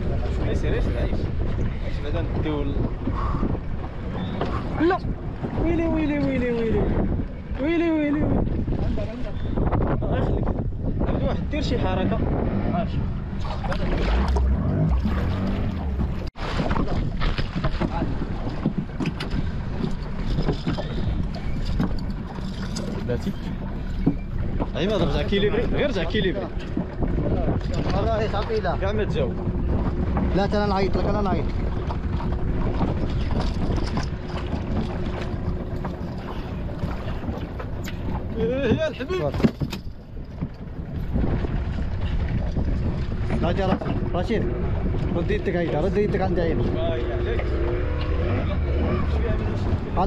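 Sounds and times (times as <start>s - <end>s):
water splashing against boat: 0.0s - 50.0s
wind rumbling on microphone: 0.0s - 50.0s.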